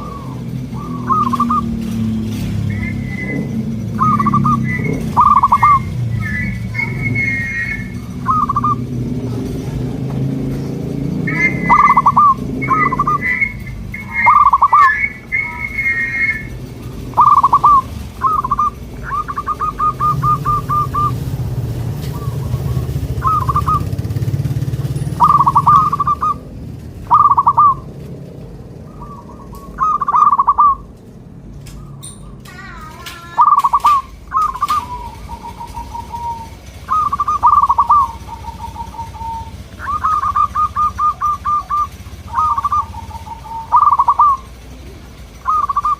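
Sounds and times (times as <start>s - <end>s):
doves cooing: 0.0s - 45.9s.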